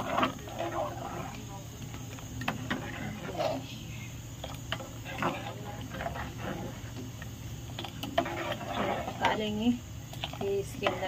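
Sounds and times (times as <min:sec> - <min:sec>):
spoon stirring milk in pot: 0:00.0 - 0:03.8, 0:04.4 - 0:11.0.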